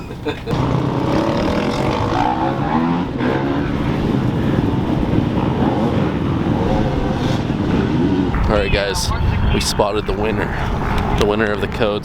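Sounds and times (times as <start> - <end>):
dirt bike engines running: 0.0 - 12.0.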